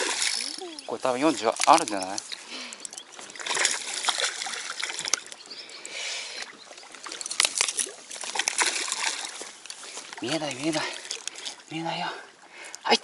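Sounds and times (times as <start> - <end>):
fish thrashing in water: 0.0 - 5.5, 6.4 - 11.7
water splashing and sloshing: 0.0 - 13.0.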